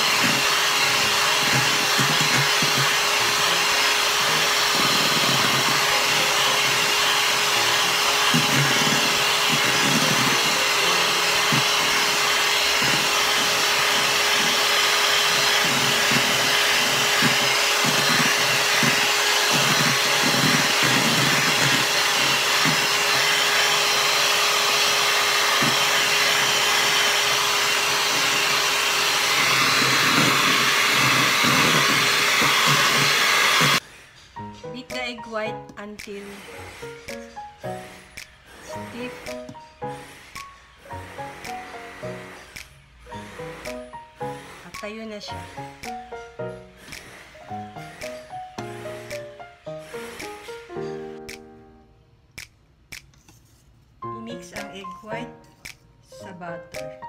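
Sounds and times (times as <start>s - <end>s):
electric hand mixer whirring: 0.0s - 34.1s, 36.0s - 51.4s.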